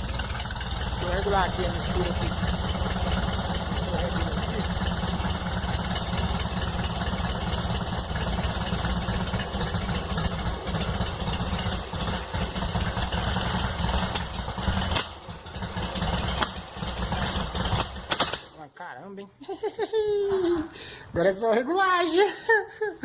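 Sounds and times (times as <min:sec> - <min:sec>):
engine pops: 0:00.0 - 0:18.6
rough air-cooled engine running: 0:00.0 - 0:18.6.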